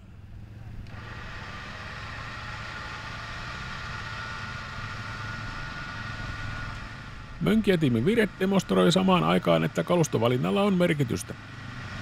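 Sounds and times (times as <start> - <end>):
off-road vehicle engines running: 0.0 - 12.0.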